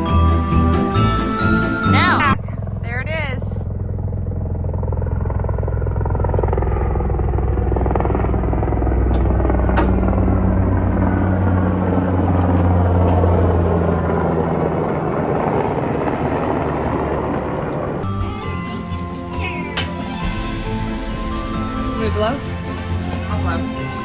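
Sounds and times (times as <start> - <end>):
helicopter flying past: 0.0 - 24.0.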